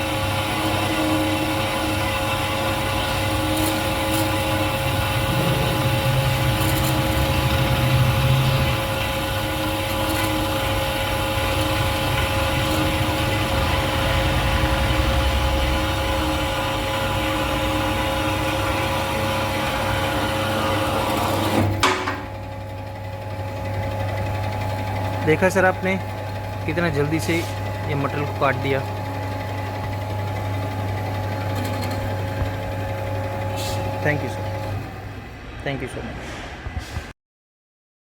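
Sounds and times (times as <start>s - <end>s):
band saw cutting metal: 0.0s - 22.3s, 23.8s - 34.9s
low machine hum: 0.0s - 36.8s.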